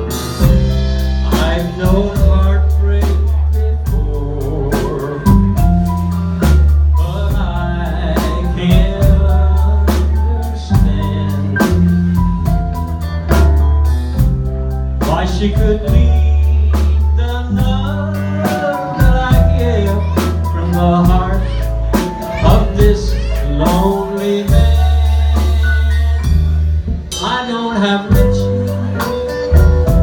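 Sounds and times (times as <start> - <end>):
man singing: 0.0 - 14.3, 15.0 - 30.0
drums and cymbals: 0.0 - 30.0
electric bass: 0.0 - 30.0.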